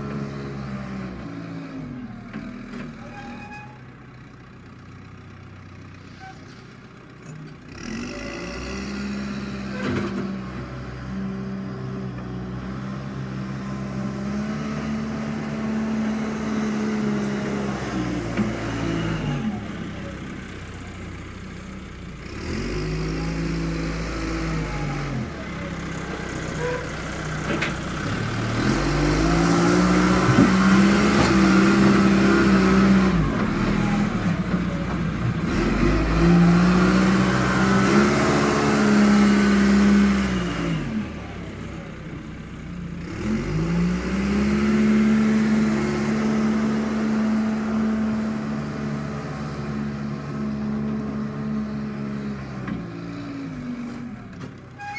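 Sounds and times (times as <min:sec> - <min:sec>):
diesel engine revving: 0:07.6 - 0:54.5.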